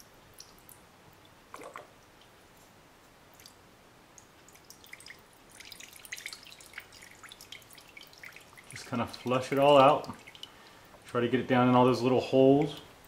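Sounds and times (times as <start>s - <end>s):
liquid dripping and splashing: 0.1s - 2.4s, 3.3s - 11.1s, 12.5s - 13.0s.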